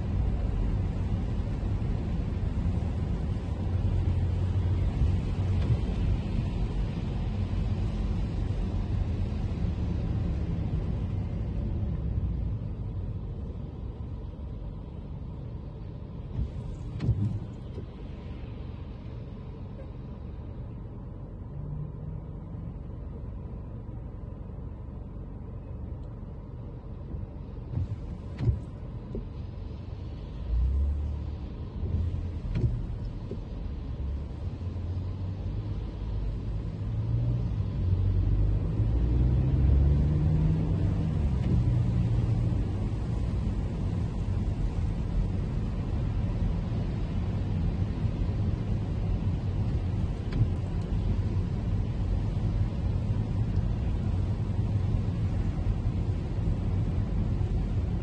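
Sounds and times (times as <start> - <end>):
car engine: 0.0 - 58.0
road rumble: 0.0 - 58.0
tyres swishing on wet road: 0.0 - 58.0.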